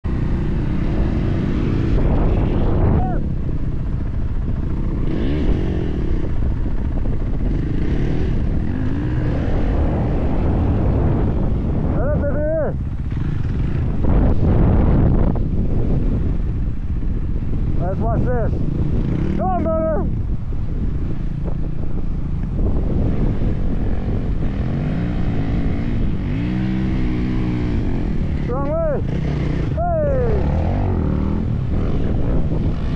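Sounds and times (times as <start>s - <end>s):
wind buffeting microphone: 0.0s - 32.9s
dirt bike engine revving: 0.1s - 32.9s.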